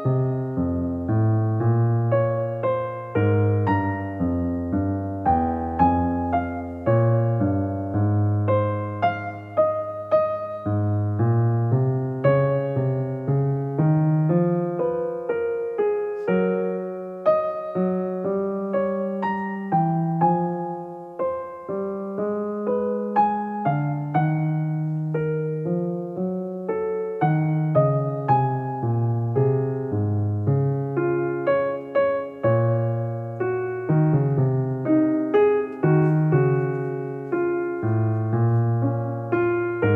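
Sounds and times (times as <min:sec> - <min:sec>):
slow piano music: 0:00.0 - 0:39.9.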